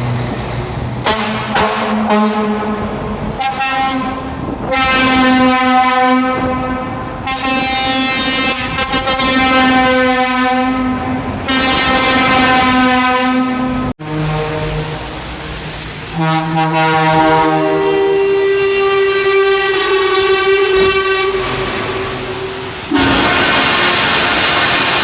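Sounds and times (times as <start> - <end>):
truck engines rumbling: 0.0 - 25.0
lower-pitched horn: 1.0 - 15.2, 16.1 - 25.0
truck air horn blasts: 1.0 - 15.2, 16.1 - 25.0.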